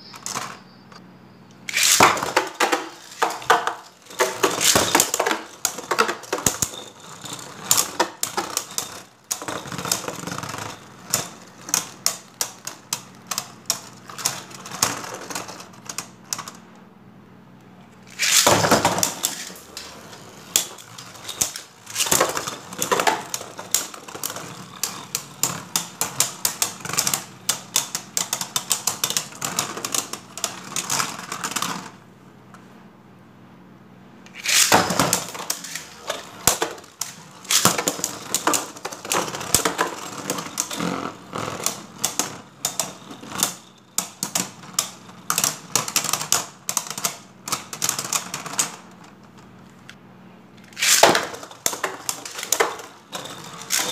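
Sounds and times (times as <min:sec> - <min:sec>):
spinning tops clacking: 0:01.6 - 0:16.5, 0:18.0 - 0:32.0, 0:34.3 - 0:48.9, 0:50.6 - 0:53.9.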